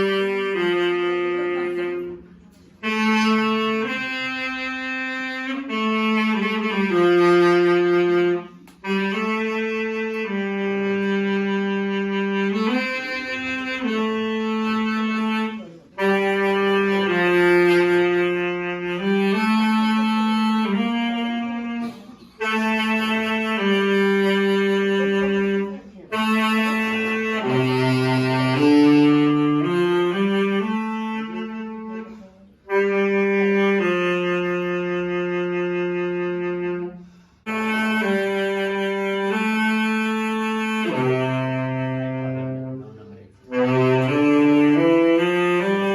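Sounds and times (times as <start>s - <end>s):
saxophone slow melody: 0.0s - 45.9s.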